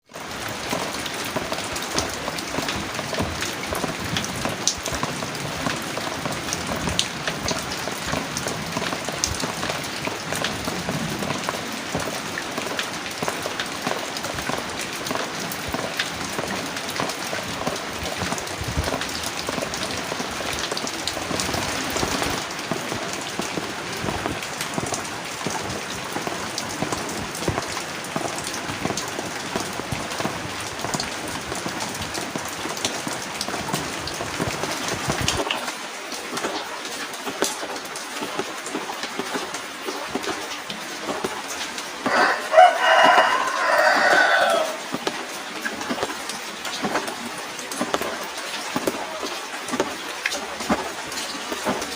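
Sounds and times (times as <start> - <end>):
rain pattering: 0.0 - 51.9.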